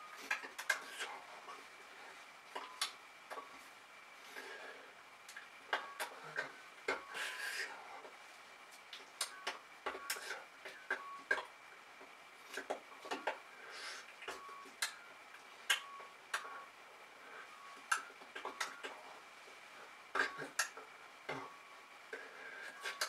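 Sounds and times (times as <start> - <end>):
faint steady high tone: 0.0 - 23.0.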